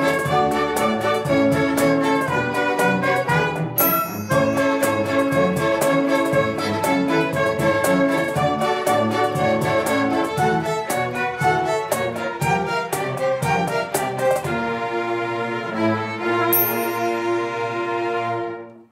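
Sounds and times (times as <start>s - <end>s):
cellos playing: 0.0s - 18.9s
violins playing: 0.0s - 18.9s.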